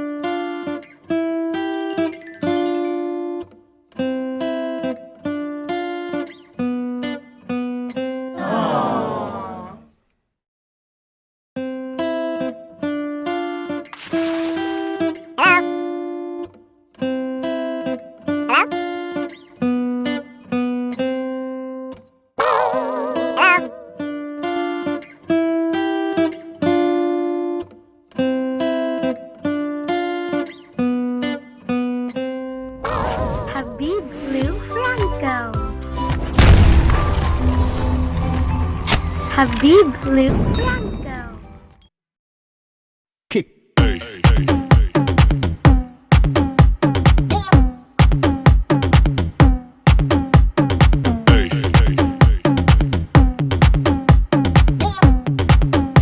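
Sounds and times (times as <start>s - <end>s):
plucked acoustic guitar: 0.0s - 8.4s, 11.6s - 22.1s, 22.9s - 32.8s, 33.8s - 41.6s, 43.8s - 56.0s.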